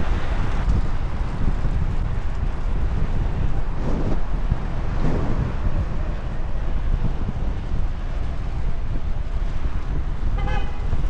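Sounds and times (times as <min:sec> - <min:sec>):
street noise: 0:00.0 - 0:11.0
wind buffeting microphone: 0:00.0 - 0:11.0.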